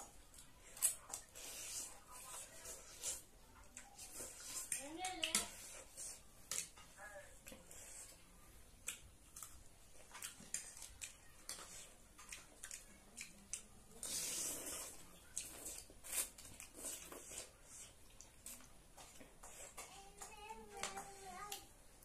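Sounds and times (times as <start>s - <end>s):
noodles slurped and chewed: 0.0s - 6.8s, 7.4s - 20.2s.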